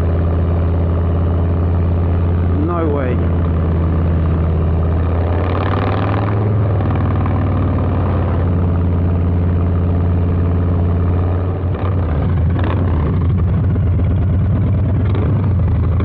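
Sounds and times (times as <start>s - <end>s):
motorcycle exhaust deep note: 0.0s - 16.0s.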